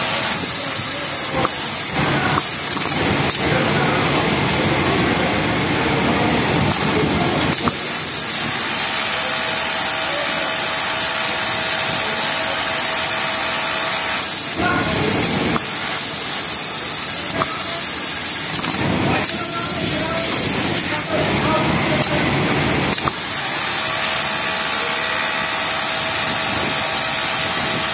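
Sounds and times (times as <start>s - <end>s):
sewing machine whirring: 0.0s - 27.9s.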